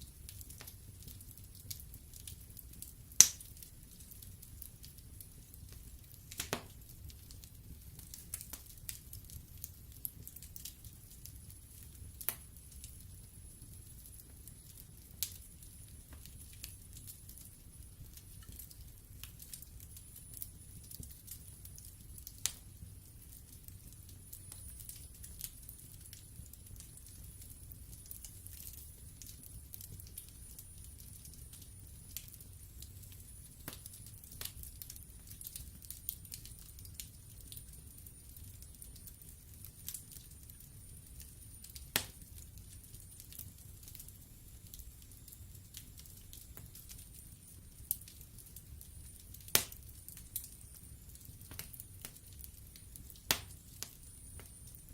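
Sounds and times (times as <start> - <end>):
logs crackling in fire: 0.0 - 54.9
low rumble of flames: 0.0 - 54.9.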